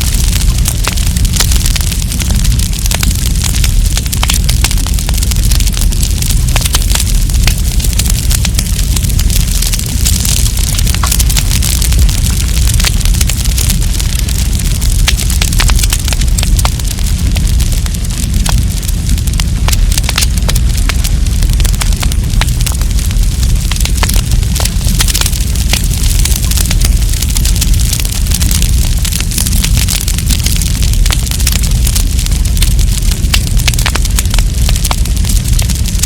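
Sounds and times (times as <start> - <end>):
campfire crackling and popping: 0.0 - 36.0
fire hissing and rumbling: 0.0 - 36.0.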